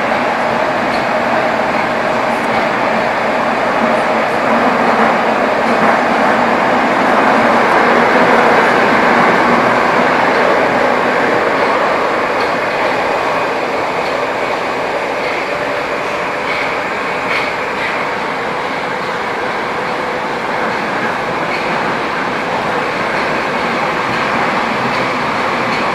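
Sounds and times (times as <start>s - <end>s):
metro train wheels rumbling: 0.0s - 25.9s.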